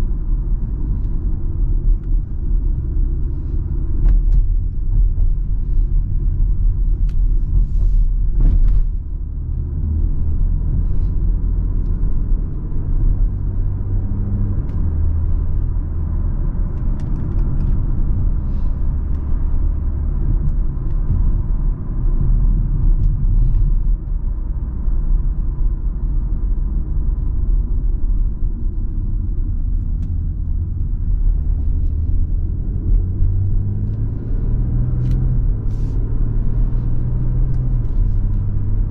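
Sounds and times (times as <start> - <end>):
car engine rumble: 0.0 - 38.9
tyre and road noise: 0.0 - 38.9.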